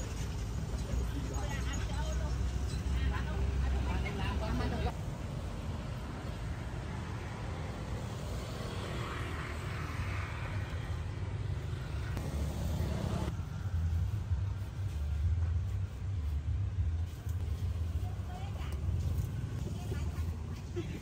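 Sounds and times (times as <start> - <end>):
motor vehicle rumble: 0.0 - 21.0.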